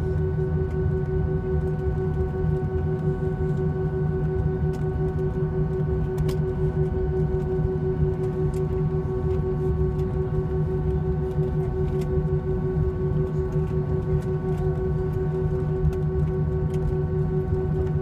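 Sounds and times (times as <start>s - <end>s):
aircraft engines idling in cabin: 0.0s - 18.0s.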